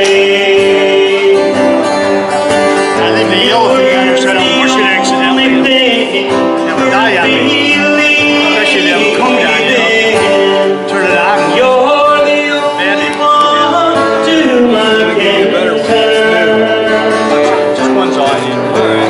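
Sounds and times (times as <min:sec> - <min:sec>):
acoustic guitar strumming: 0:00.0 - 0:19.0
person singing: 0:00.0 - 0:19.0.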